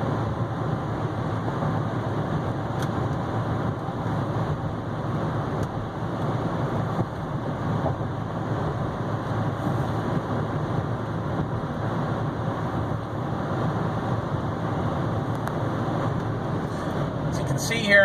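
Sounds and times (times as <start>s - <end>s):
pickup truck cruising drone: 0.0s - 18.0s.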